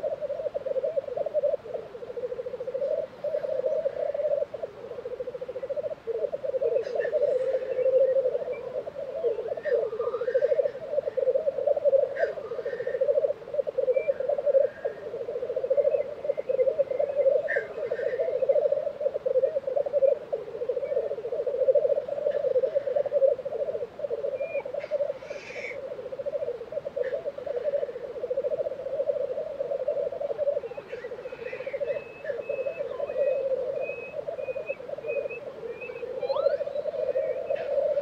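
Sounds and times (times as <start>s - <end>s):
grouse bubbling rolling coo: 0.0s - 38.0s
grouse hissing calls: 0.0s - 38.0s.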